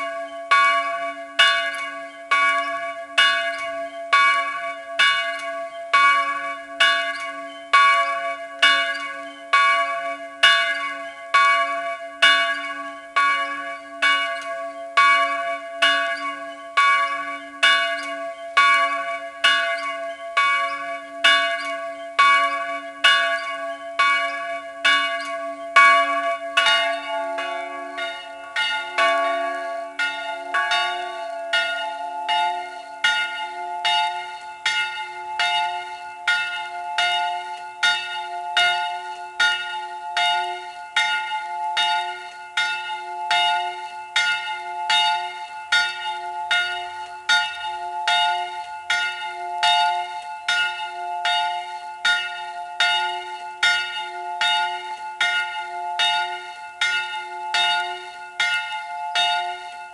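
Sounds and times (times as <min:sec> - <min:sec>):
church bell ringing: 0:00.0 - 0:59.9.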